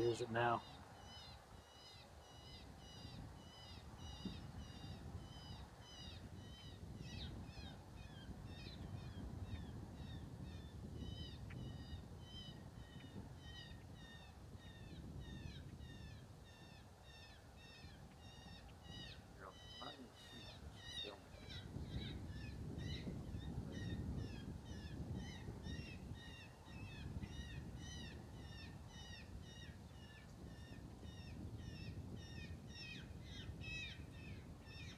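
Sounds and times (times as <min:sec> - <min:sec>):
low wind rumble: 0:02.4 - 0:34.9.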